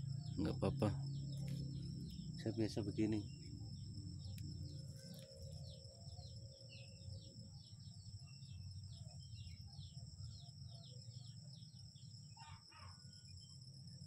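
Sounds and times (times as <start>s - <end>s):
faint bird chirping: 0.0s - 14.0s
insects droning: 0.0s - 14.0s.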